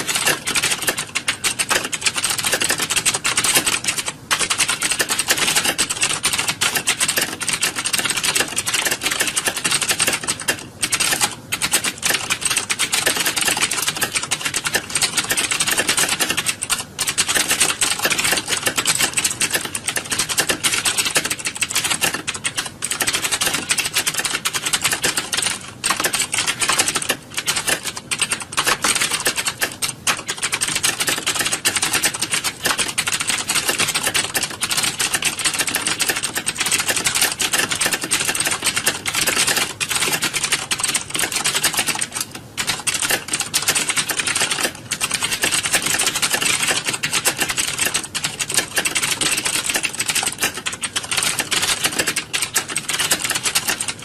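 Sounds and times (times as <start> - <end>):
keyboards typing clatter: 0.0 - 54.0.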